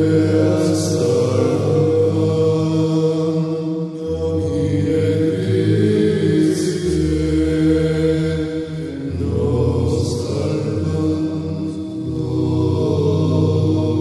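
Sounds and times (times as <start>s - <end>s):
low voices chanting: 0.0s - 14.0s
sustained drone: 0.0s - 14.0s.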